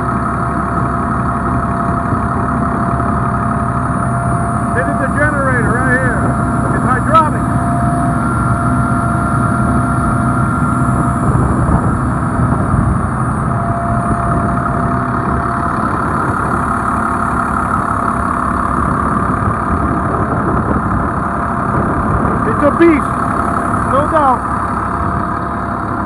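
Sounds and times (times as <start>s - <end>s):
diesel engine idling: 0.0s - 26.0s
high whine: 0.0s - 26.0s.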